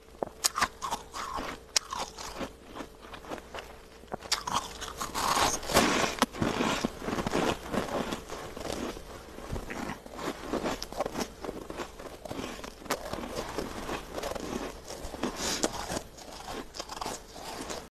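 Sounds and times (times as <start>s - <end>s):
chewing crunchy frost: 0.2s - 17.9s.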